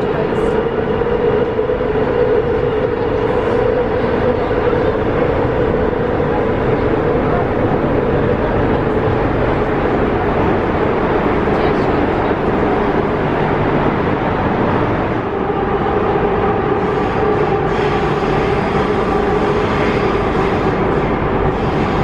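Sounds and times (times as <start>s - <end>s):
constant droning tone: 0.0s - 22.0s
metro train rumbling: 0.0s - 22.0s.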